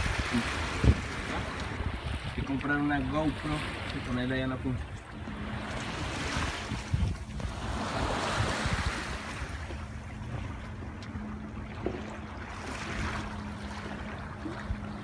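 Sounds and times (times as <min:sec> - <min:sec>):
water rushing along hull: 0:00.0 - 0:15.0
wind rumbling on microphone: 0:00.0 - 0:15.0.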